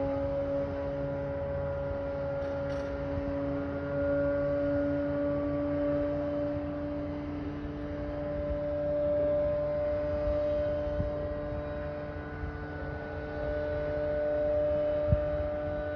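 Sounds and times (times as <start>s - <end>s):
low droning hum: 0.0s - 15.9s.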